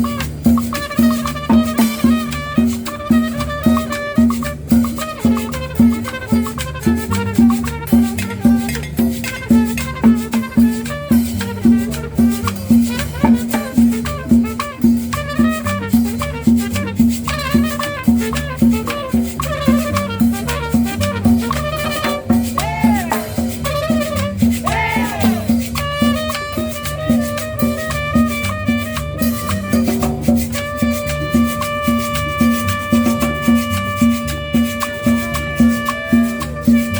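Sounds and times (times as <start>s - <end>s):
cumbia dance music: 0.0s - 36.9s.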